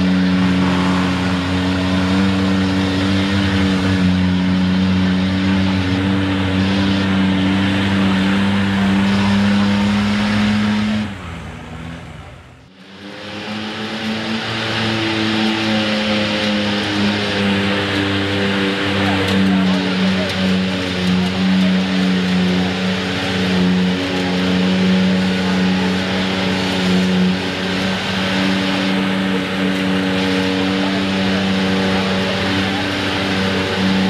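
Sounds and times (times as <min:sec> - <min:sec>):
pickup truck engine running: 0:00.0 - 0:34.0.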